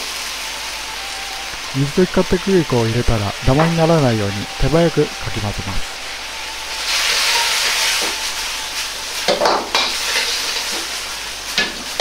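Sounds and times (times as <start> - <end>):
sauce sizzling and bubbling in wok: 0.0 - 12.0.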